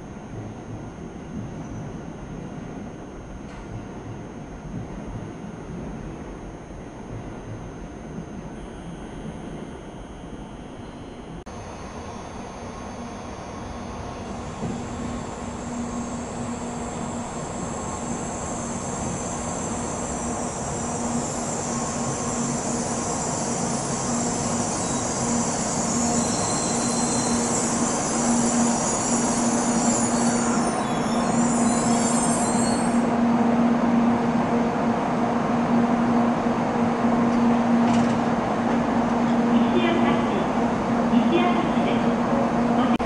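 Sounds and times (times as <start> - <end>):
train rumble slowing to a stop: 0.0 - 43.0.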